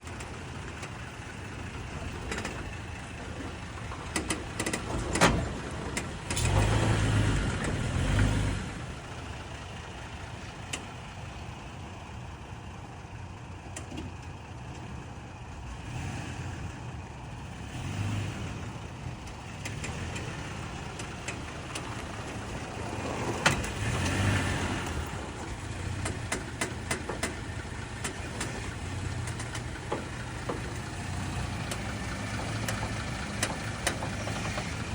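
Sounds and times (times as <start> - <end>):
truck engine hum: 0.0 - 34.9.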